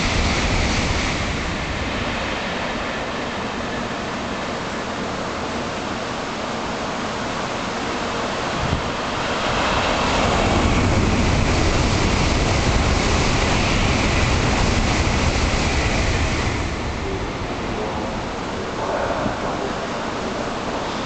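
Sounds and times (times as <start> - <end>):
bullet train passing at speed: 0.0 - 21.0.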